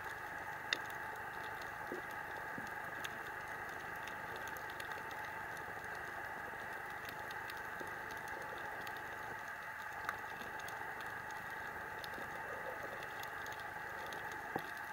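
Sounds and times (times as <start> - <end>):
faint clicks and crackles: 0.0 - 14.9
underwater steady hiss: 0.0 - 14.9.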